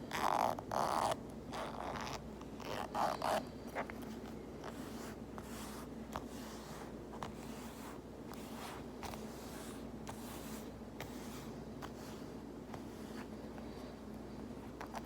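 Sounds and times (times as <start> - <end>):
fabric pouch rustling: 1.6 - 15.0.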